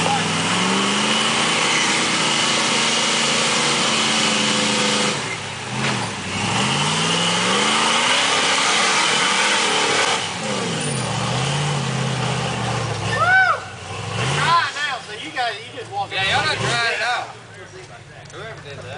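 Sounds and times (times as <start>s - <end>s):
buggy engine revving: 0.0s - 18.9s.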